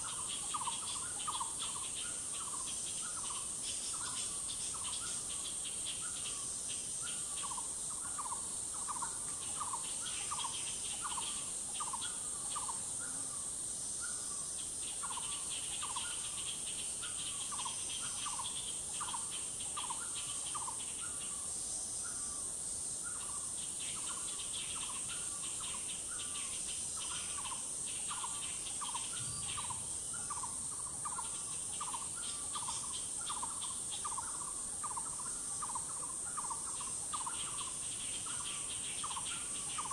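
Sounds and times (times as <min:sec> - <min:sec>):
insects high-pitched drone: 0:00.0 - 0:39.9
pulsing insect trill: 0:00.0 - 0:39.9.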